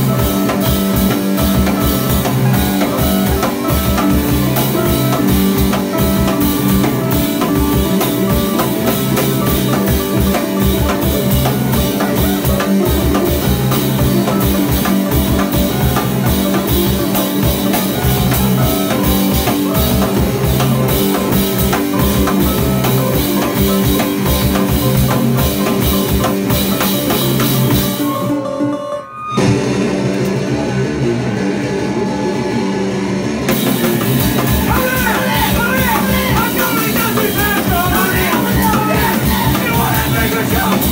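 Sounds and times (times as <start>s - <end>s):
drum kit pounding: 0.0s - 28.4s, 29.4s - 40.9s
loud electric guitars: 0.0s - 40.9s.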